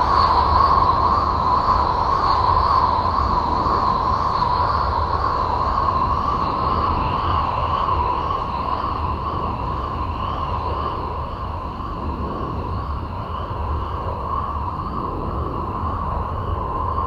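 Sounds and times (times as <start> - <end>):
droning hiss: 0.0 - 17.0.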